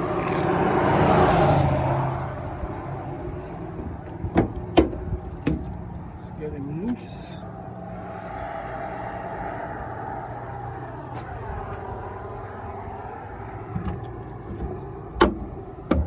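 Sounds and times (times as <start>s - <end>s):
engine rumble: 0.0s - 16.0s.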